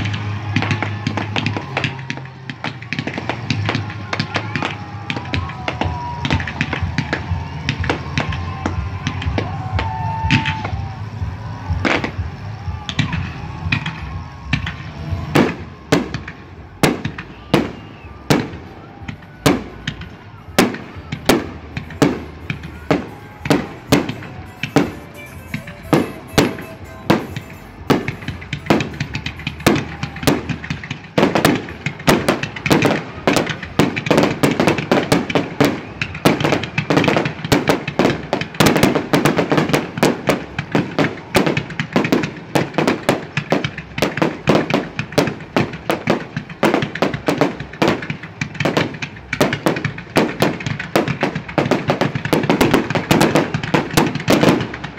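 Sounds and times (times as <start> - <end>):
fireworks bursting: 0.0 - 54.9
fireworks crackling: 0.0 - 54.9.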